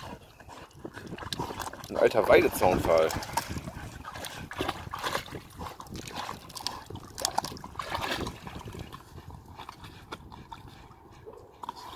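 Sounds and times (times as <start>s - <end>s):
dogs splashing in water: 0.0s - 11.9s.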